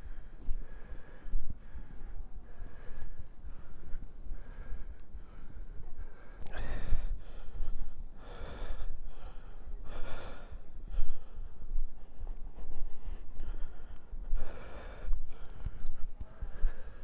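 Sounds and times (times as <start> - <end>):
person breathing heavily: 0.0 - 17.0.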